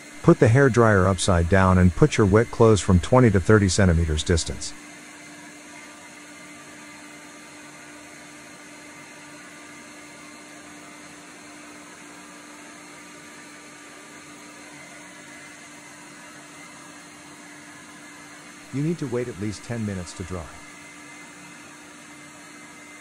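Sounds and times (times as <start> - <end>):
hair dryer blowing air: 0.0 - 23.0.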